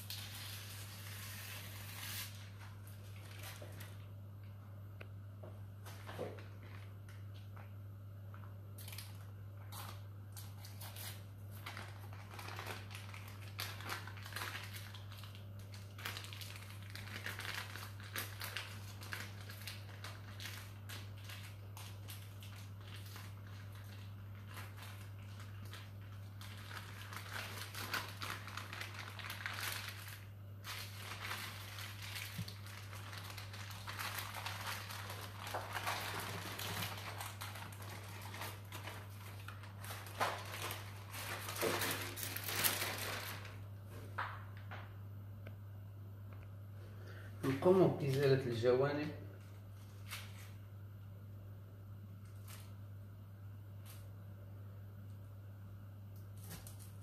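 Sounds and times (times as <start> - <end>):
baking parchment rustling: 0.0 - 4.2, 5.8 - 44.5, 47.1 - 50.6
steady low hum: 0.0 - 57.0.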